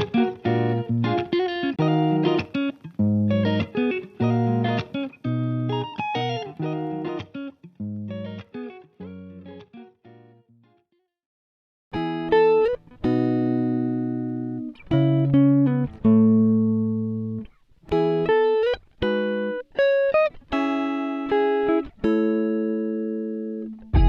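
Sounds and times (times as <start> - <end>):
guitar chords ringing: 0.0 - 10.6, 12.0 - 24.0.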